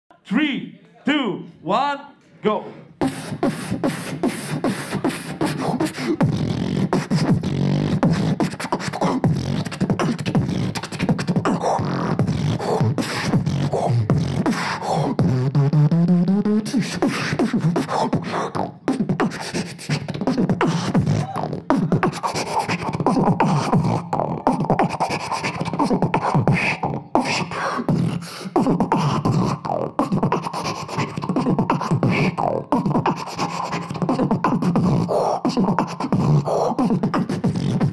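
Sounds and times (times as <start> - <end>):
beatboxing: 2.8 - 37.9.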